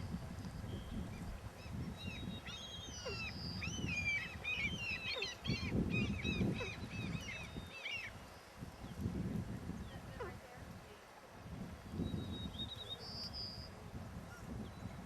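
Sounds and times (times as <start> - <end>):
birds chirping: 0.0 - 11.0, 11.8 - 15.0.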